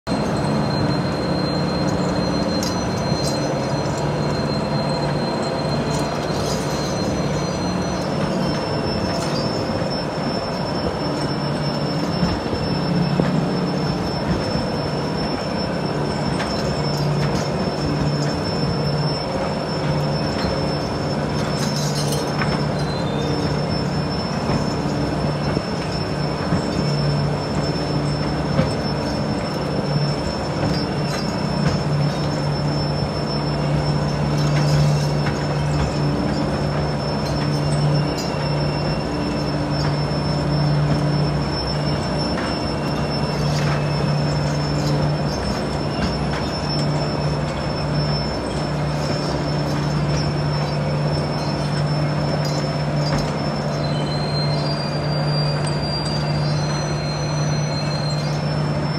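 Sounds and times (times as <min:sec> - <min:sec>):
high steel squeal: 0:00.1 - 0:58.9
low machine hum: 0:00.1 - 0:58.9
machinery clanks: 0:00.1 - 0:58.9.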